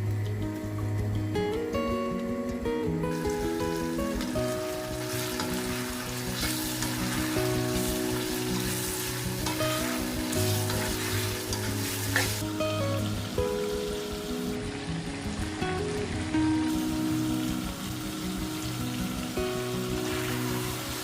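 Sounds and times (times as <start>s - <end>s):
background music: 0.0s - 21.0s
food sizzling in oil: 3.0s - 21.0s.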